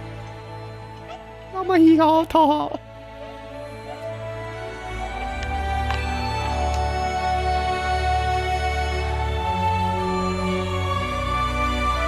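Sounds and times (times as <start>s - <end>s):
soft instrumental chords: 0.0s - 12.0s.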